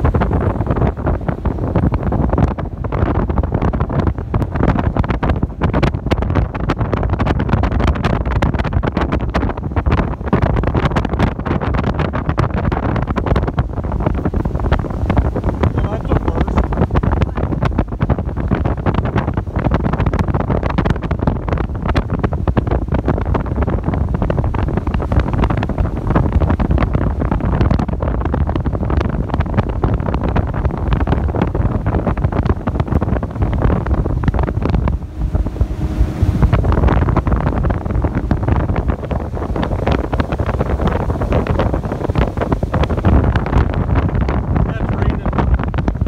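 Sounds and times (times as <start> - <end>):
boat rumbling through water: 0.0 - 46.0
wind buffeting microphone: 0.0 - 46.0.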